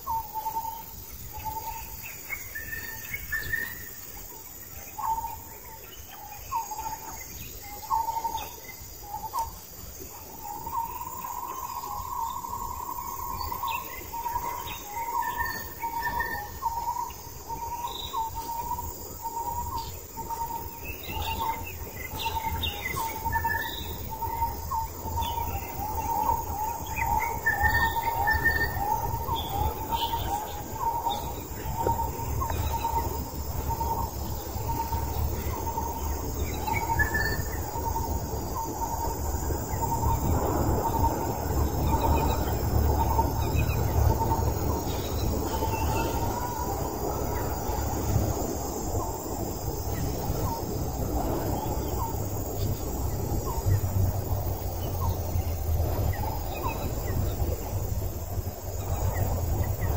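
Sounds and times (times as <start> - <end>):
birds chirping: 0.0 - 59.9
cricket trilling in pulses: 0.0 - 59.9.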